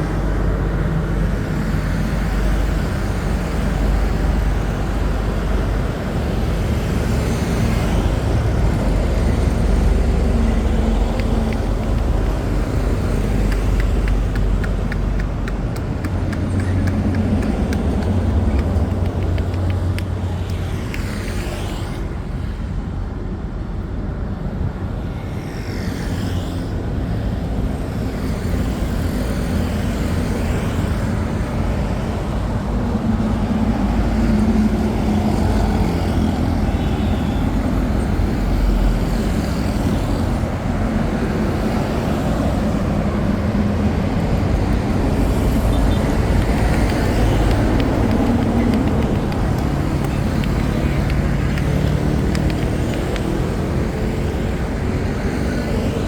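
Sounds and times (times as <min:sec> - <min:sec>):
engines passing close by: 0:00.0 - 0:23.4, 0:24.1 - 0:56.0
street traffic: 0:00.0 - 0:56.0.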